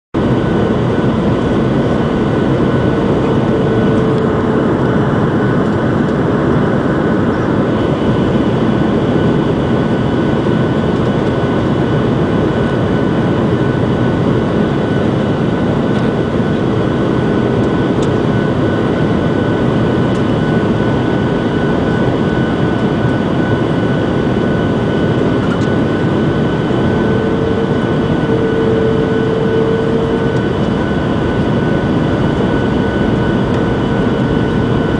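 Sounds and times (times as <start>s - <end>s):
low tone: 0.2s - 11.5s, 14.3s - 34.9s
jet engines humming: 0.2s - 34.9s
thin steady whine: 0.2s - 34.9s.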